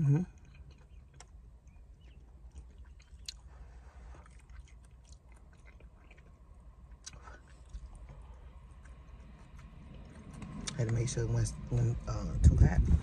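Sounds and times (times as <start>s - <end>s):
faint low rumble: 0.0s - 13.0s
wet chewing sounds: 0.3s - 11.2s.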